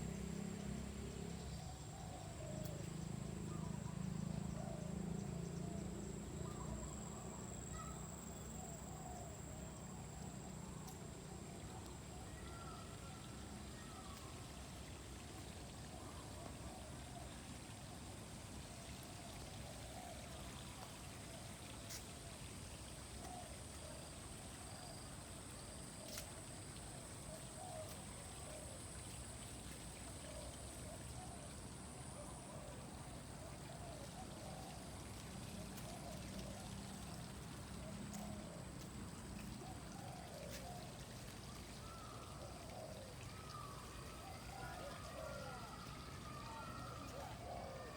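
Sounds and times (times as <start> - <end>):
running water: 9.5 - 47.9.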